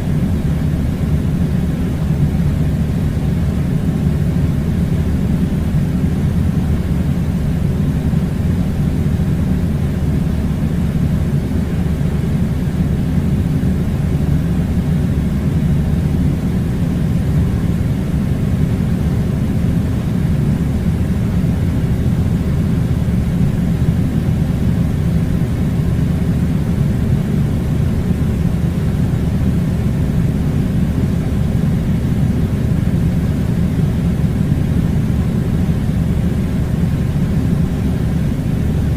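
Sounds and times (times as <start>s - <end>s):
air conditioner rumbling: 0.0s - 38.9s.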